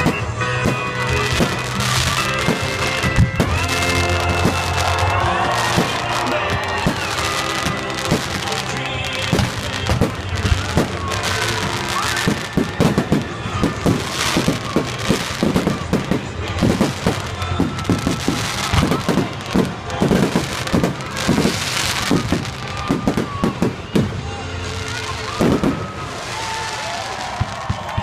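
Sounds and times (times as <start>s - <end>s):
fireworks bangs and crackles: 0.0s - 28.0s
whistling fireworks: 0.0s - 28.0s.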